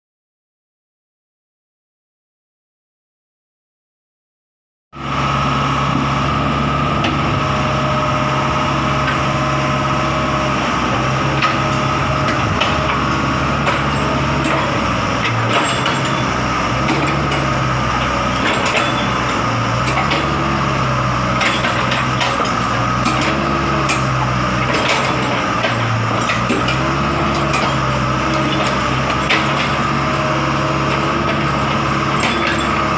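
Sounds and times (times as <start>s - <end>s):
excavator diesel engine: 5.0s - 32.9s.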